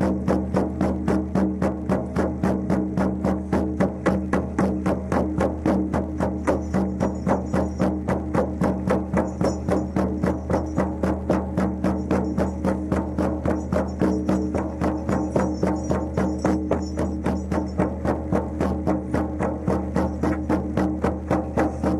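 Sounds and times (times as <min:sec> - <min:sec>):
frame drums beating: 0:00.0 - 0:21.9.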